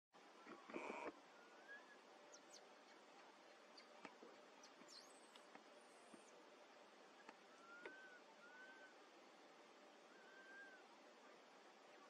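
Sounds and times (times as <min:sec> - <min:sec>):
faint high chirps: 0:00.3 - 0:06.4, 0:07.1 - 0:09.0, 0:10.0 - 0:12.0.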